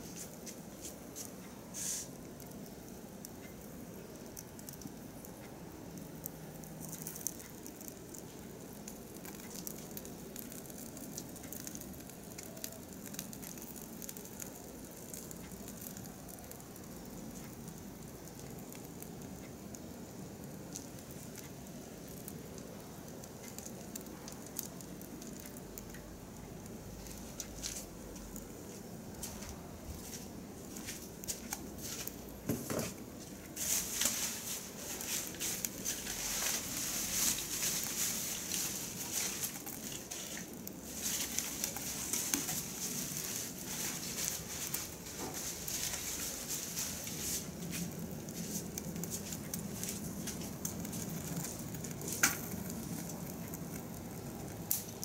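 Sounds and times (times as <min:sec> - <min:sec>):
fire crackling and popping: 0:00.0 - 0:55.0
low fire hush: 0:00.0 - 0:55.0.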